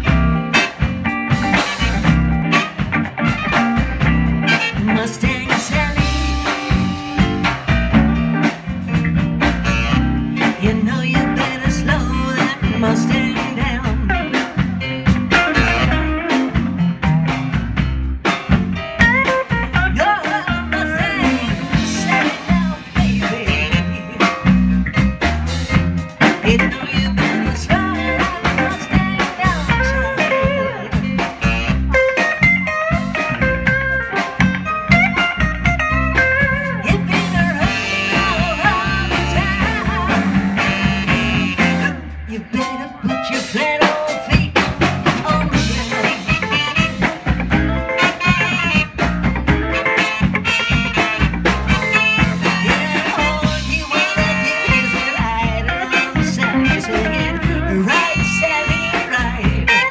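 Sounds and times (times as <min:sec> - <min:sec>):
bass notes: 0:00.0 - 0:59.9
drums: 0:00.0 - 0:59.9
guitar: 0:00.0 - 0:59.9
live band playing: 0:00.0 - 0:59.9.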